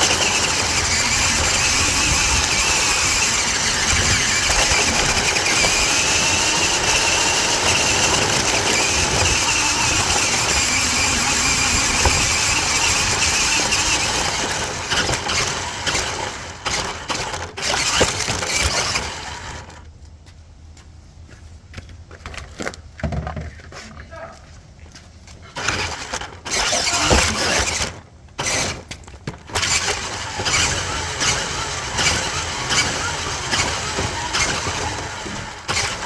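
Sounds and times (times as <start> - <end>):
chassis and wheels rattling: 0.0 - 19.8, 25.5 - 36.0
electric motor and gears whining: 0.0 - 19.9, 25.6 - 36.0.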